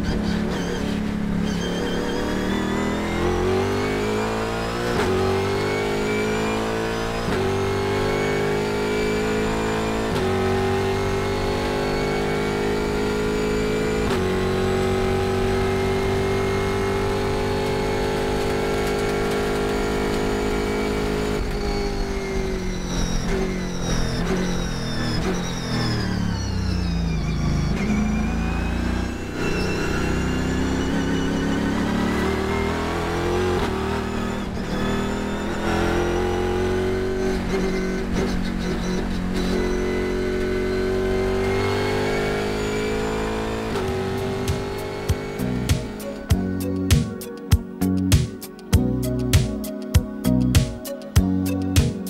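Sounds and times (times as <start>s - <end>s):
race car engine accelerating: 0.0s - 46.3s.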